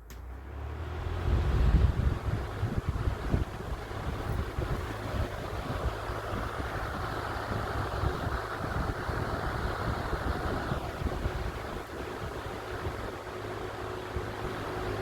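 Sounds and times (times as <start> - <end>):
box fan air rushing: 0.0 - 15.0
low motor hum: 0.0 - 15.0
airflow buffeting microphone: 0.8 - 15.0.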